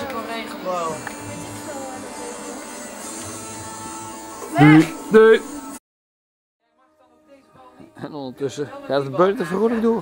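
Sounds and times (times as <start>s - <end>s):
faint background music: 0.0s - 5.8s, 6.6s - 10.0s.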